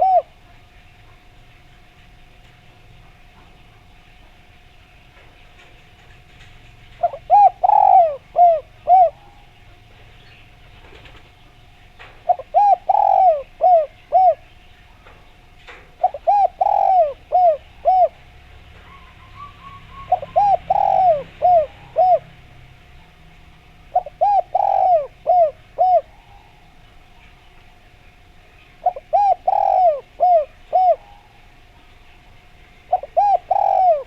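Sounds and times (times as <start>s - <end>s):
dove cooing: 0.0s - 1.9s, 5.5s - 34.0s.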